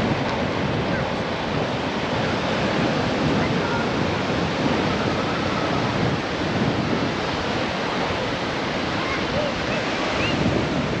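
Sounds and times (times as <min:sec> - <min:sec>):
ocean surf washing: 0:00.0 - 0:11.0
wind on microphone: 0:00.0 - 0:11.0.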